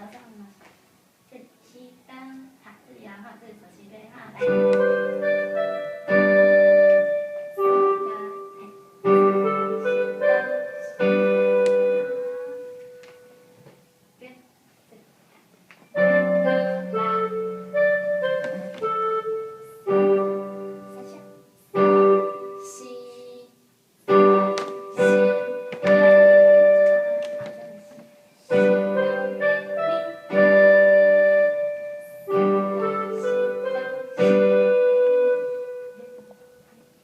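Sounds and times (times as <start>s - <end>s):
slow piano chords: 4.2s - 14.1s, 15.9s - 37.0s.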